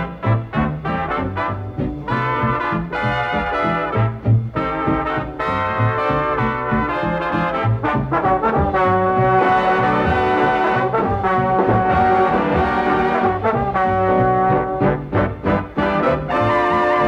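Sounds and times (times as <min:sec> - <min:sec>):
brass section playing chords: 0:00.0 - 0:17.0
steady bass line: 0:00.0 - 0:17.0.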